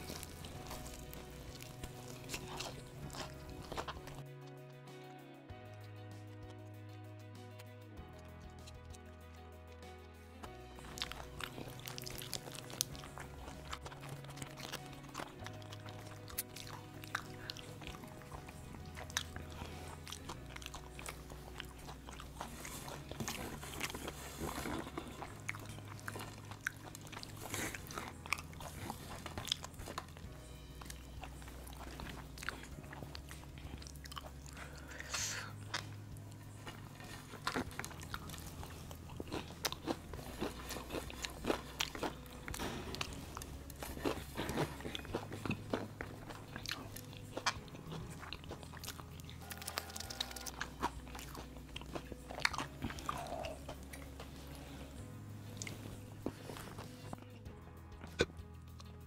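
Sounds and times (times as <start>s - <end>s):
chewing and crunching: 0.0s - 4.8s, 7.5s - 59.0s
quiet background music: 0.0s - 59.0s.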